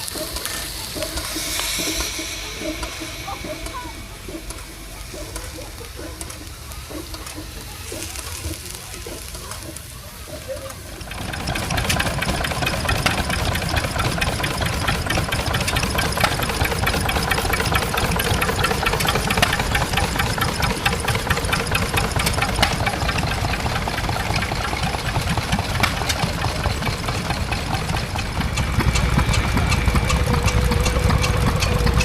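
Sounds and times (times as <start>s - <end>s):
engine running with knocking beat: 0.0s - 32.0s.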